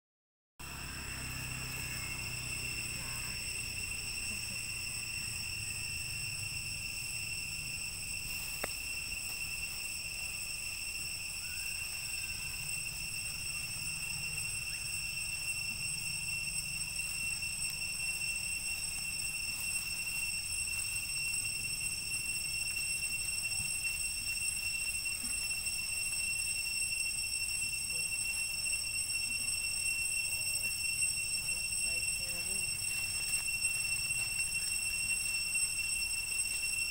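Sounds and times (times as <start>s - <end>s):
high-pitched insect drone: 0.6s - 36.9s.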